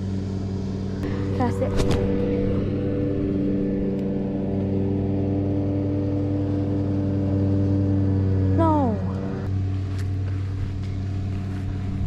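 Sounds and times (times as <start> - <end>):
machine humming steadily: 0.0 - 12.0.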